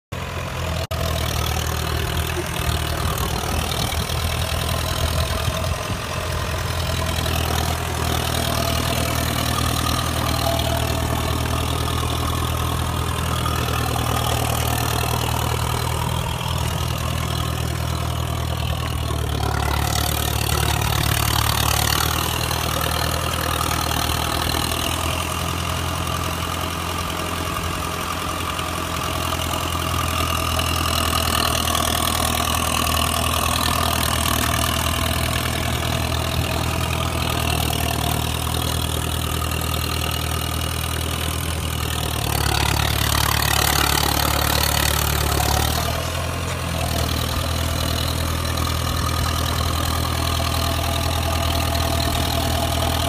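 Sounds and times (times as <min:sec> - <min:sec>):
diesel engine idling: 0:00.1 - 0:53.0.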